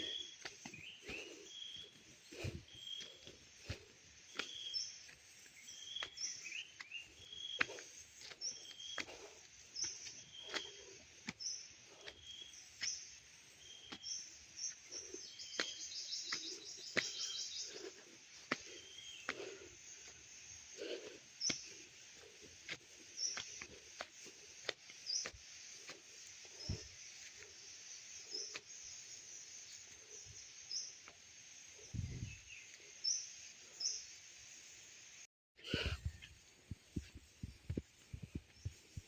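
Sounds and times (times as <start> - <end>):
footsteps on a path: 0.0 - 31.2, 36.1 - 39.0
birds chirping: 0.0 - 34.6.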